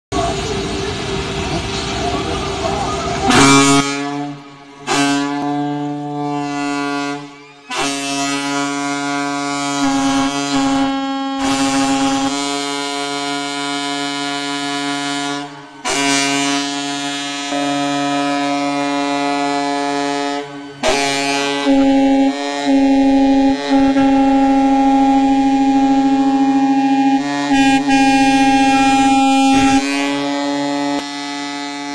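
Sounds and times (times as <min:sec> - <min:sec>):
ship horns blasting: 0:03.2 - 0:31.9.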